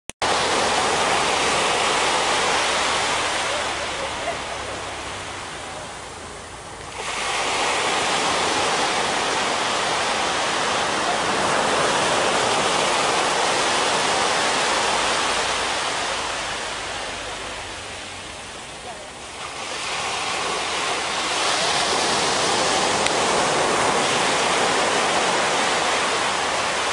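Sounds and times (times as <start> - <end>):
waves breaking on beach: 0.2 - 26.9.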